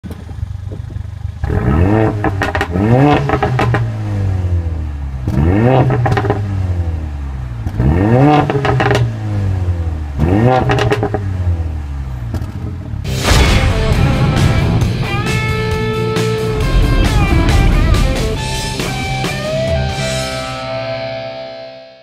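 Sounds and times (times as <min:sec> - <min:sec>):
car engine revving: 0:01.4 - 0:21.2.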